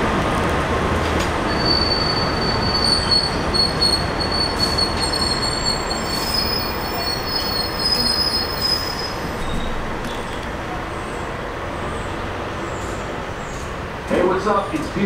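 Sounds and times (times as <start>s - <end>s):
train wheels squealing on rails: 1.5s - 13.7s.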